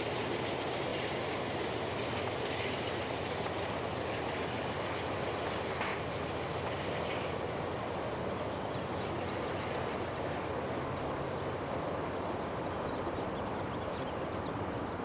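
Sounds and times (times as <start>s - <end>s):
passenger train rumbling on rails: 0.0s - 15.0s.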